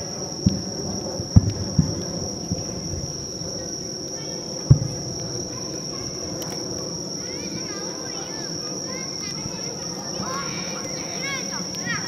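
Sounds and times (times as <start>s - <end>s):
distant fireworks booms: 0.0s - 12.0s
insect trill: 0.0s - 12.0s.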